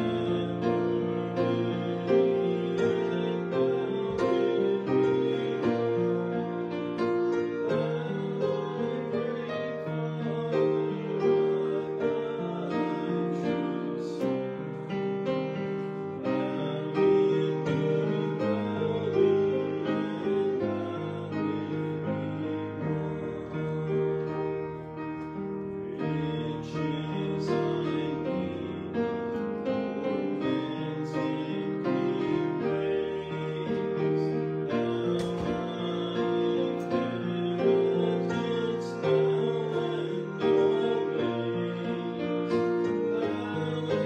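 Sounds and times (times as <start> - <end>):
man singing a hymn: 0.0 - 44.0
piano accompaniment: 0.0 - 44.0.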